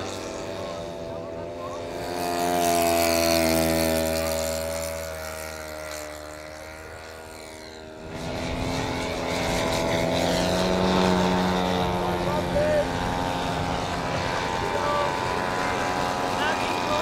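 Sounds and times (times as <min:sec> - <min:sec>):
model airplane engine drone: 0:00.0 - 0:17.0
model engine running steadily: 0:00.0 - 0:17.0.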